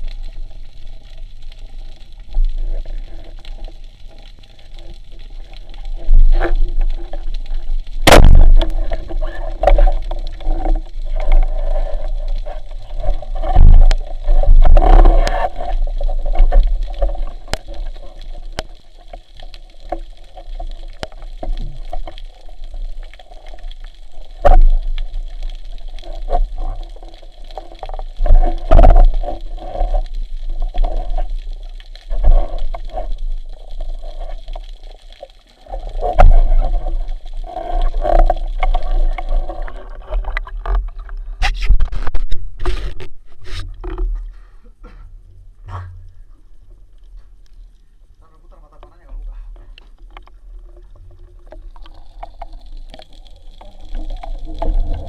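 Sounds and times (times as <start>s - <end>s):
water gurgling and sloshing: 0.0s - 55.0s.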